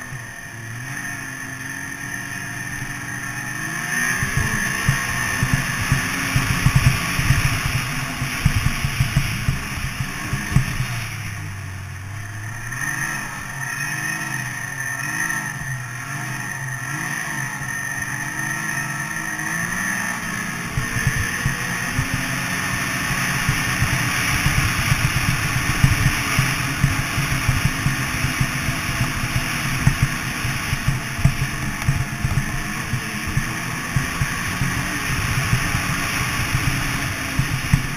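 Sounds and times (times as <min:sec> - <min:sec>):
snowmobile engine running: 0:00.0 - 0:37.9.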